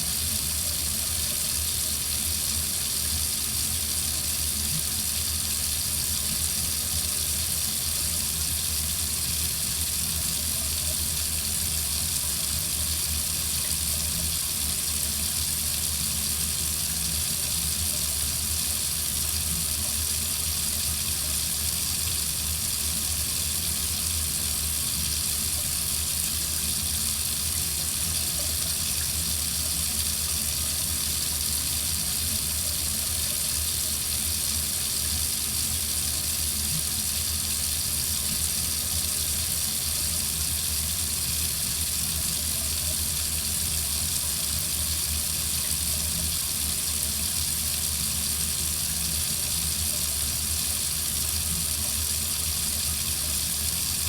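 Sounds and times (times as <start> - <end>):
water running from faucet: 0.0 - 54.0.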